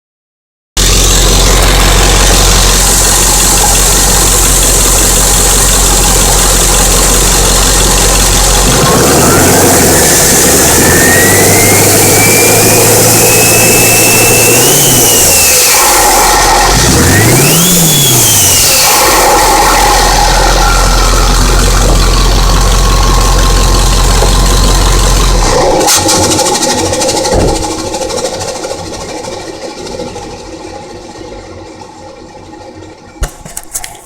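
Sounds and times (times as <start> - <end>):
turbocharger whistle: 0.8 - 31.6
diesel engine idling and revving: 0.8 - 34.0.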